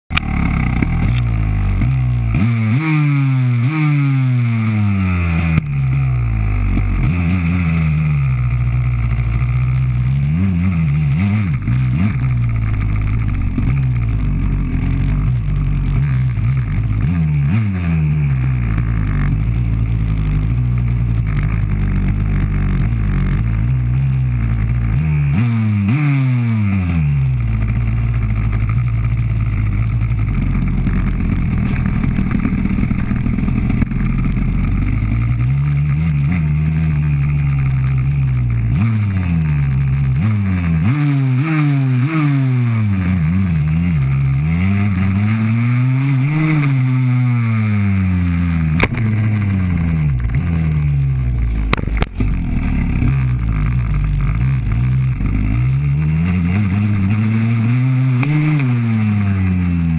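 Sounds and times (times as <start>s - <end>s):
dirt bike engine revving: 0.1s - 59.9s.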